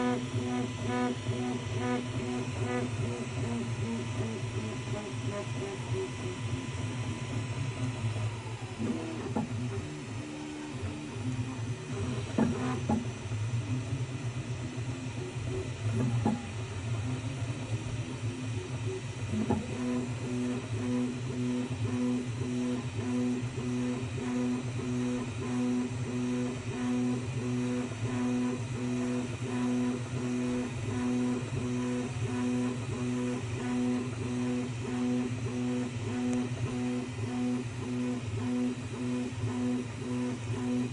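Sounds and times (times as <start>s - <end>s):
printer fan hum: 0.0s - 40.9s.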